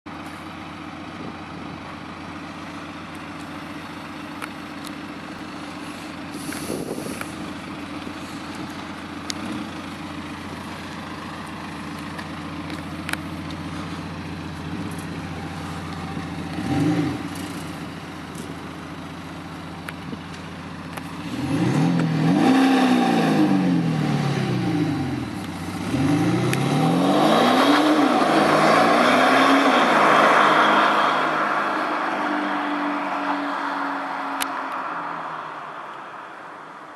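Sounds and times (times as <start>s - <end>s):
diesel engine idling and revving: 0.1s - 36.9s.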